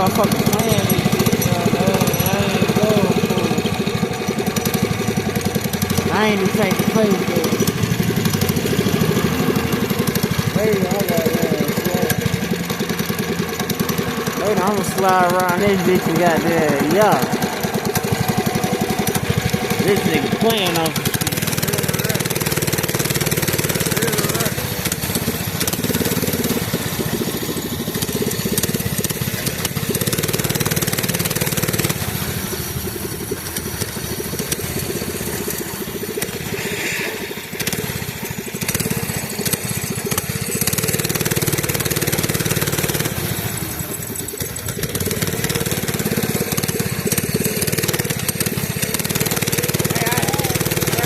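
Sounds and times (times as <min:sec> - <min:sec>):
mini bike engine revving: 0:00.0 - 0:51.0.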